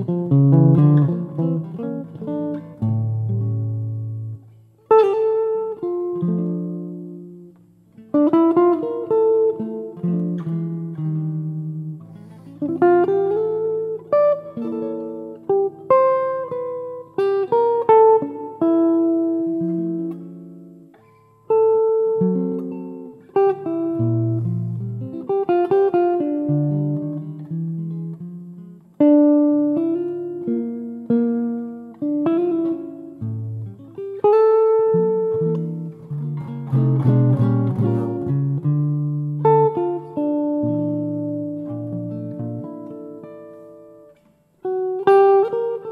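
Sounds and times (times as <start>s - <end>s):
jazz guitar ballad: 0.0s - 45.9s.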